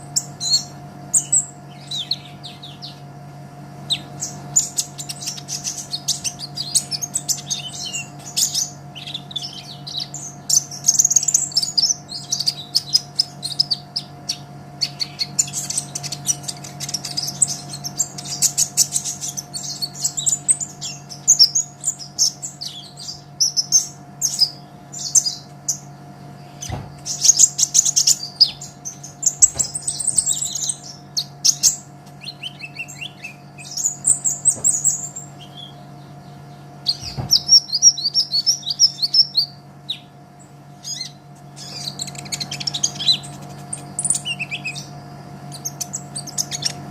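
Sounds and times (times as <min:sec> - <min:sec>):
bird twittering song: 0:00.0 - 0:46.9
steady low hum: 0:00.0 - 0:46.9.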